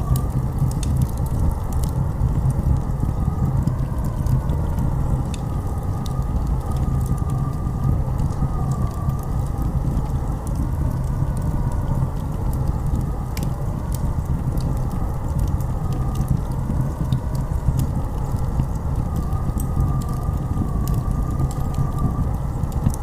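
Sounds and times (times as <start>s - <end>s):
blizzard wind howling: 0.0s - 23.0s.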